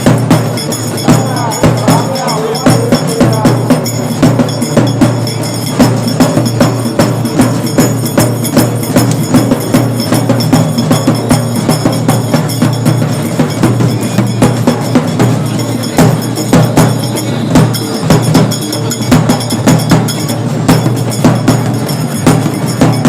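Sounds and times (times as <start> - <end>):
percussion-driven music: 0.0 - 23.0.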